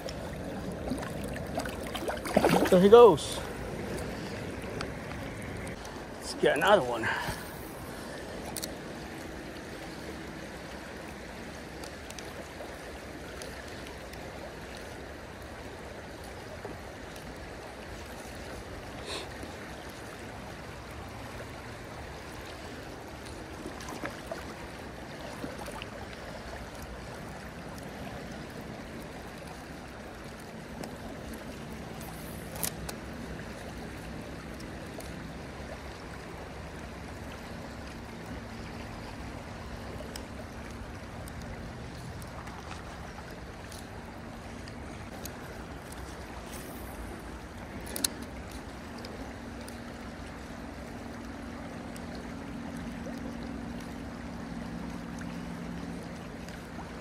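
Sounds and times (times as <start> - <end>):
river current rushing: 0.0 - 57.0.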